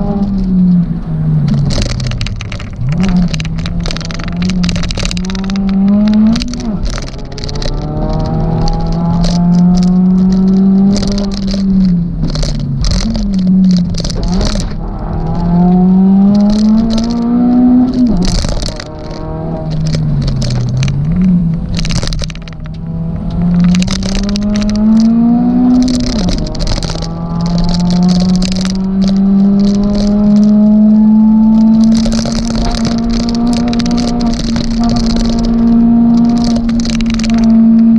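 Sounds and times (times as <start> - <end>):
car engine revving through gears: 0.0 - 37.9
crackling scraping noise: 0.0 - 37.9.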